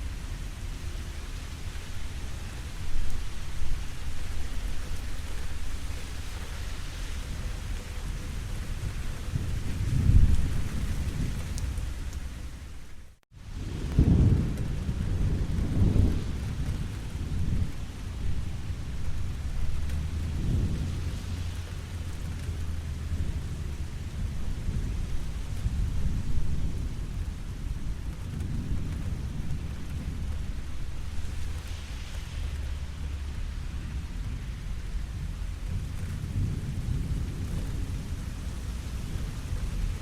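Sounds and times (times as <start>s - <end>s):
rolling thunder rumbles: 0.0s - 40.0s
steady rain: 0.0s - 40.0s.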